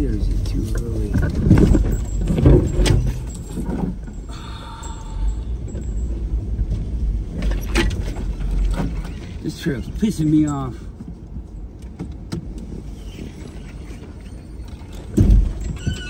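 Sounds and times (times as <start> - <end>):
car engine and road rumble: 0.0 - 16.0
clunks and rattles: 0.0 - 16.0.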